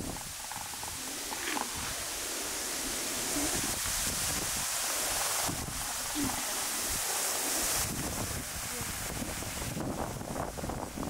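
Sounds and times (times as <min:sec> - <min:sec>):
high-pitched forest hiss: 0:00.0 - 0:11.0.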